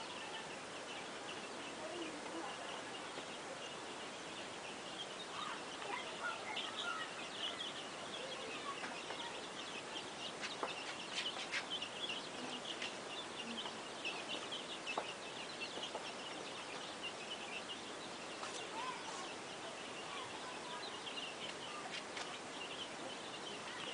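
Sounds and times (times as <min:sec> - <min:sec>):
chickens clucking and cheeping: 0:00.0 - 0:23.9.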